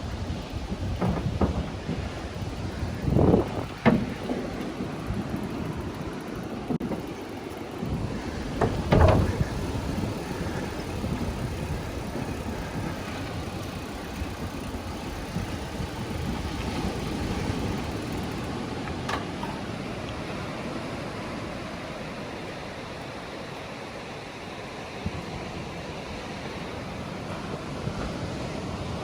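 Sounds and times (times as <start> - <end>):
ocean surf washing onto beach: 0.0 - 29.0.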